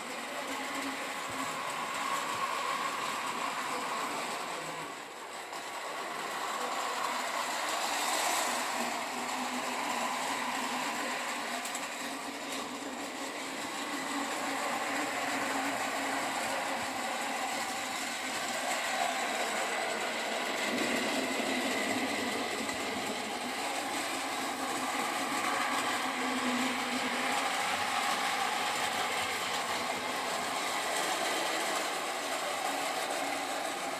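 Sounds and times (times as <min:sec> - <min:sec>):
toy train motor whirring: 0:00.0 - 0:33.9.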